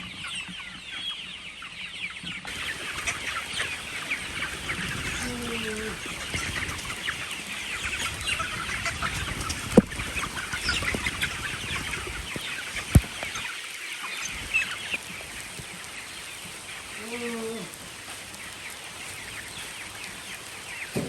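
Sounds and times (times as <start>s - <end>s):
chickens clucking and calling: 0.0s - 21.0s.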